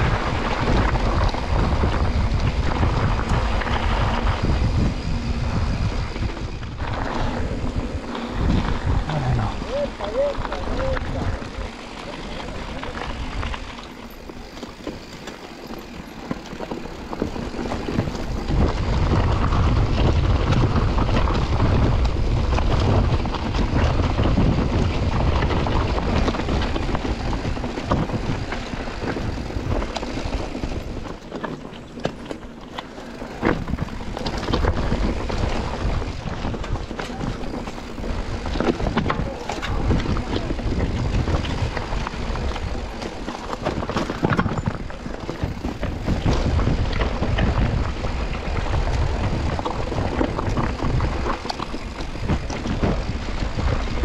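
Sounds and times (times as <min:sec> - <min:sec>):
wind on microphone: 0:00.0 - 0:15.1, 0:16.0 - 0:54.0
bike clicks and knocks: 0:00.0 - 0:54.0
bike tyre and trail noise: 0:00.0 - 0:54.0.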